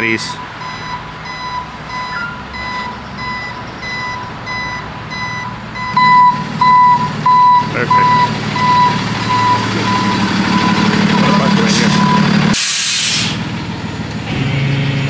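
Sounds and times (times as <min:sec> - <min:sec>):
truck reverse alarm beeping: 0:00.0 - 0:13.4
truck engine running: 0:00.0 - 0:15.0.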